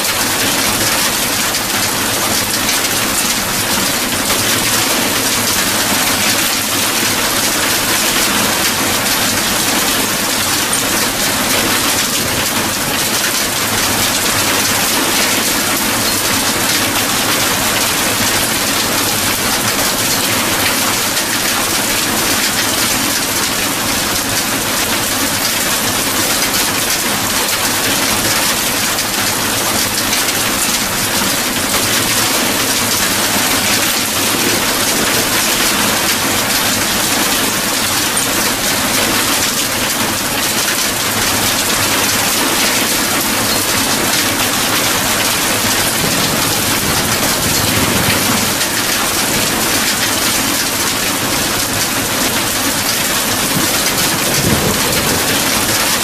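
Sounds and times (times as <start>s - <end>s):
hail and rain hitting ground: 0.0s - 56.0s.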